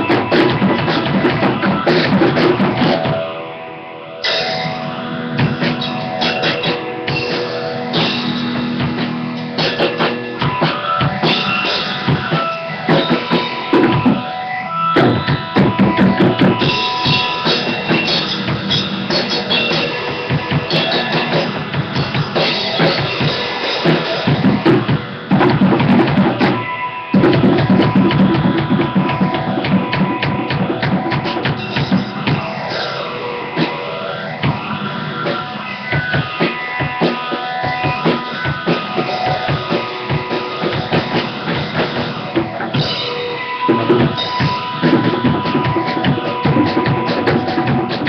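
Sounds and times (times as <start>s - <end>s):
acoustic drum kit playing: 0.0s - 3.5s, 4.2s - 48.0s.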